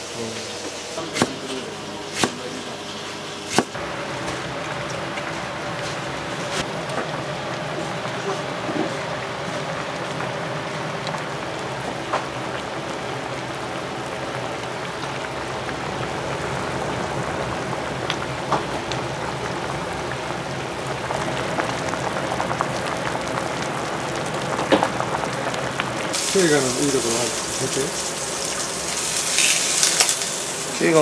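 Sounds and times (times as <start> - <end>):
food sizzling and bubbling: 0.0 - 31.0.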